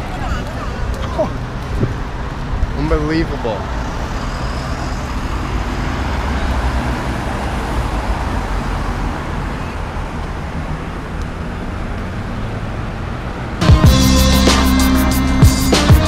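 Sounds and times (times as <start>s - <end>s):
car engines running: 0.0s - 14.1s
road noise: 0.0s - 16.0s.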